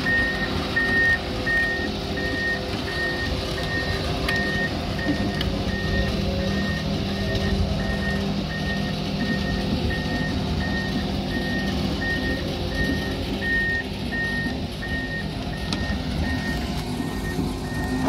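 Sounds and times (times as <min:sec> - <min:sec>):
diesel engine rumble: 0:00.0 - 0:18.0
excavator travel alarm beeping: 0:00.0 - 0:18.0.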